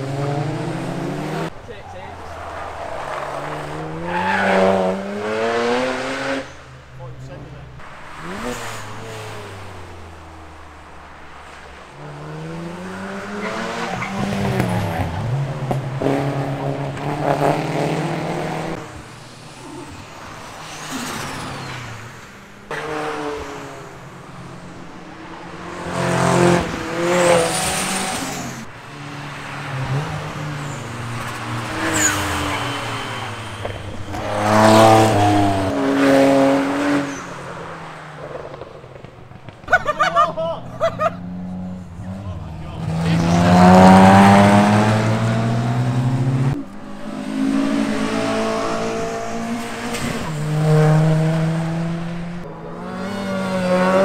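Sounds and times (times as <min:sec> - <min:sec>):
racing cars passing: 0:00.0 - 0:54.0.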